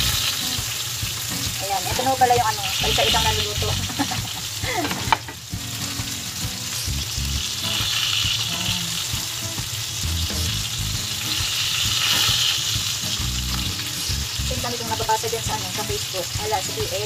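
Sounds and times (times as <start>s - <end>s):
chicken sizzling on grill plate: 0.0s - 17.0s.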